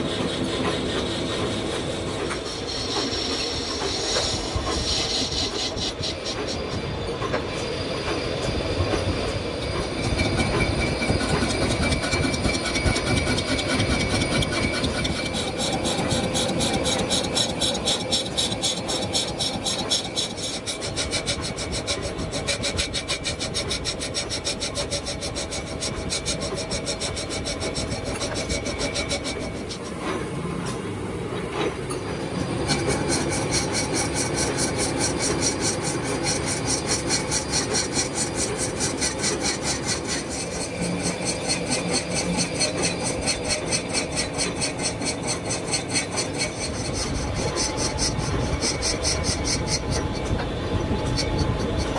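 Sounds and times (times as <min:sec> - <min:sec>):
lathe running: 0:00.0 - 0:30.3, 0:32.2 - 0:51.9
lathe tool scraping metal: 0:00.0 - 0:30.8, 0:31.6 - 0:51.9.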